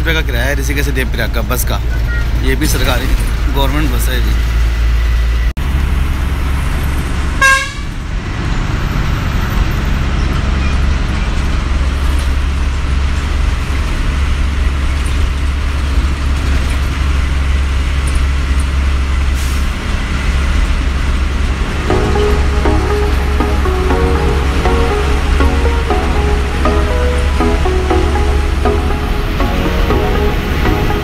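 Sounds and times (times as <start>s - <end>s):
bus engine running: 0.0s - 31.0s.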